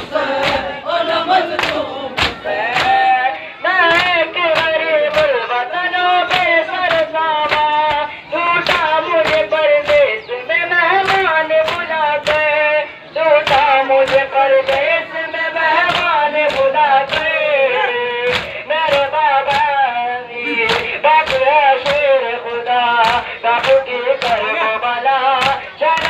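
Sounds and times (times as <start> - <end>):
men slapping chests in unison: 0.0 - 26.0
person singing lament: 1.9 - 26.0.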